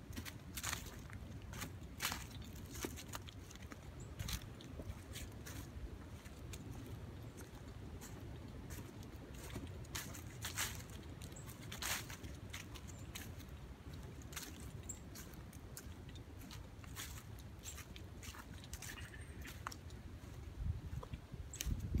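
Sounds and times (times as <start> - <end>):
footsteps crunching dry leaves: 0.0 - 22.0.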